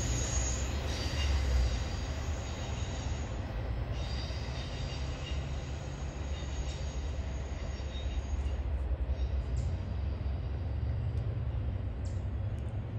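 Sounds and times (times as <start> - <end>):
train wheel squeal: 0.0 - 11.2
freight train rumbling on rails: 0.0 - 12.9.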